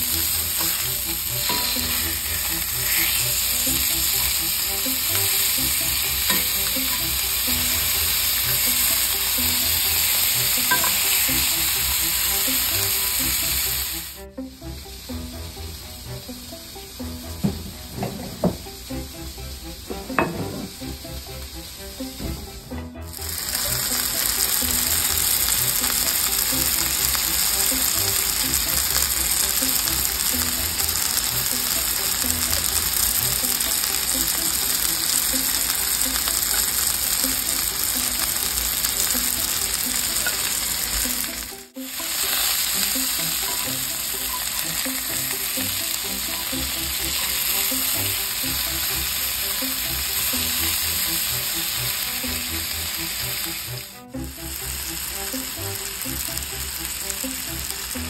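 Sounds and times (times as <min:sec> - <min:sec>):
food sizzling on hot surface: 0:00.0 - 0:14.2, 0:15.0 - 0:58.0.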